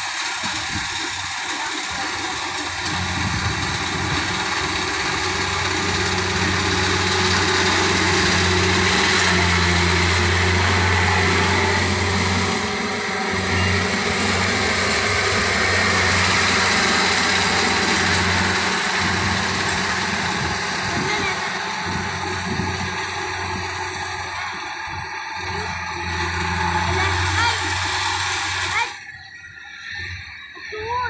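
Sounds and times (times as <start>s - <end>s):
broad mechanical rush: 0.0s - 31.0s
combine harvester engine drone: 0.0s - 31.0s.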